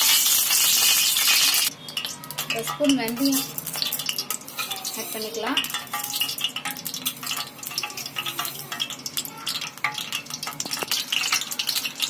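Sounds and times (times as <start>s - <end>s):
seeds sizzling in hot oil: 0.0s - 12.0s.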